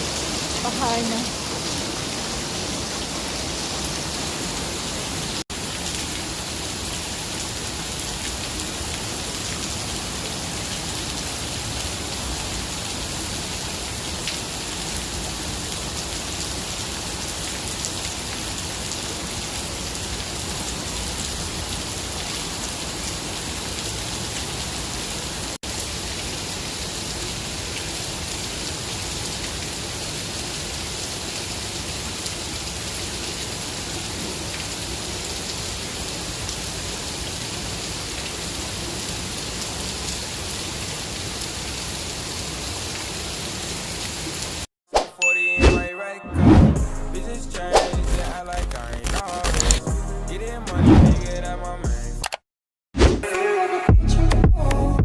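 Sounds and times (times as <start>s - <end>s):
steady rain falling: 0.0s - 44.7s.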